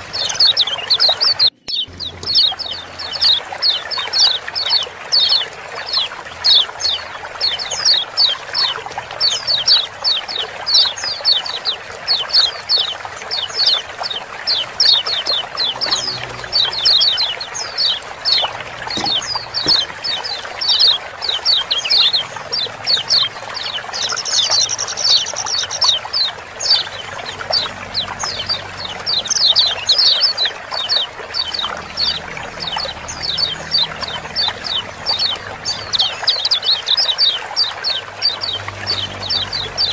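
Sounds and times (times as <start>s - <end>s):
birds chirping fast: 0.0s - 39.9s
running water hissing: 0.0s - 39.9s.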